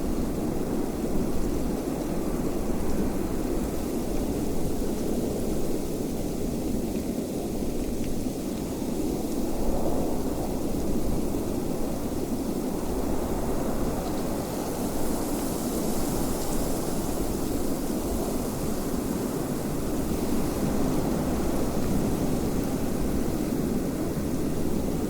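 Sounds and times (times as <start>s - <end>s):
steady wind: 0.0s - 25.0s.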